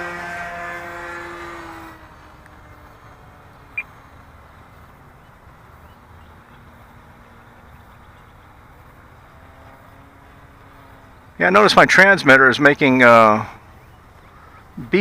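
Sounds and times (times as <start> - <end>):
model airplane engine passing: 0.0 - 13.6.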